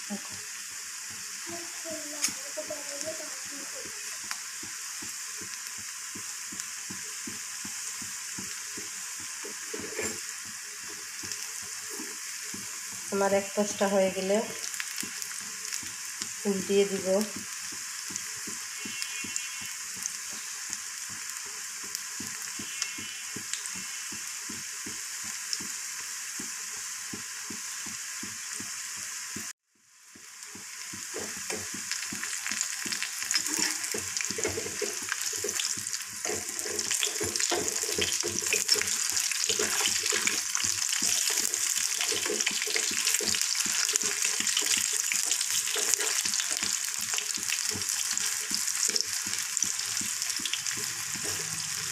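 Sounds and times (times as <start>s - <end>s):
deep-frying in hot oil: 0.0s - 51.9s
spatula stirring in pan: 0.3s - 29.5s, 30.1s - 51.9s.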